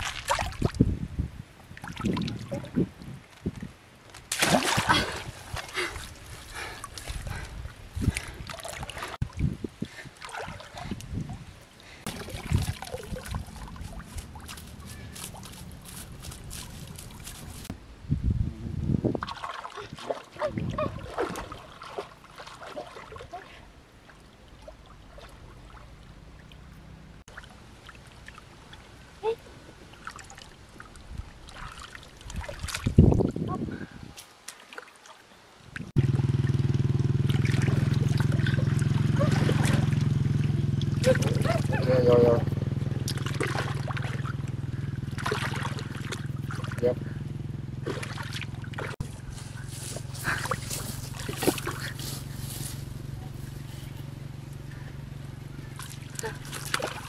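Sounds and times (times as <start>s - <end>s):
splashing in shallow water: 0.0s - 0.8s, 4.1s - 17.7s, 19.2s - 26.7s, 27.3s - 33.4s, 34.1s - 42.0s, 42.8s - 47.0s, 47.7s - 54.1s, 55.5s - 57.0s.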